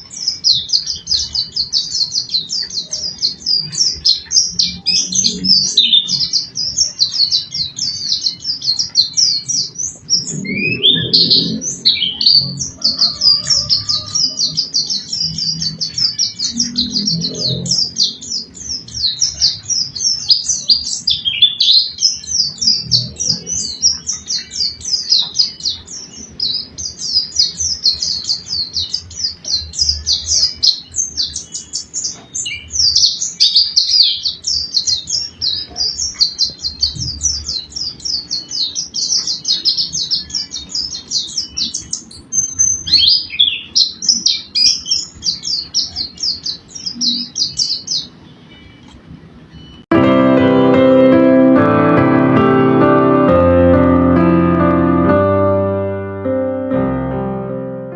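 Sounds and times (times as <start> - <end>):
songbirds chattering song: 0.0 - 49.9.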